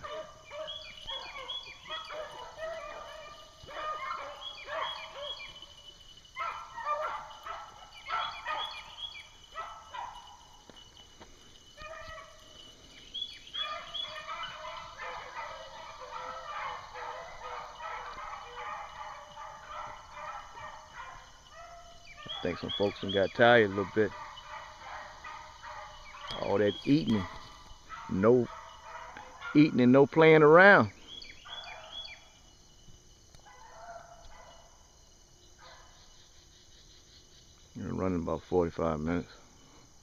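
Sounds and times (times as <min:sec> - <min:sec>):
pack of hounds baying: 0:00.0 - 0:32.4, 0:33.4 - 0:36.0.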